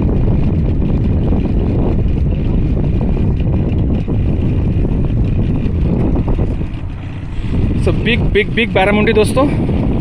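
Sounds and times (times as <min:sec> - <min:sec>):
boat engine rumbling: 0:00.0 - 0:10.0
wind buffeting microphone: 0:00.0 - 0:10.0.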